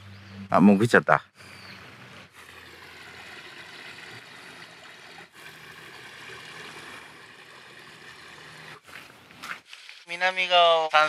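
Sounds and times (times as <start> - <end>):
water trickling through sluice: 1.4 - 11.0.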